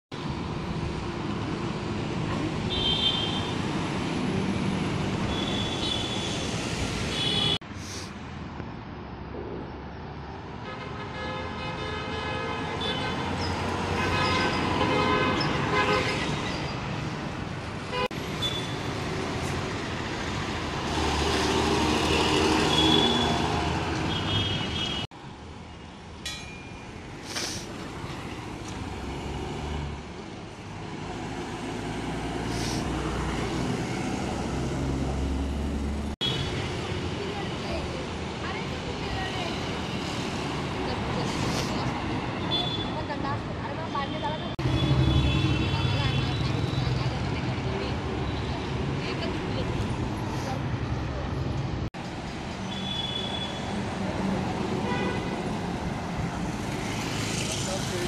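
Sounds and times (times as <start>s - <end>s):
road traffic: 0.1s - 58.0s
bus engines passing: 0.2s - 26.2s, 26.8s - 58.0s.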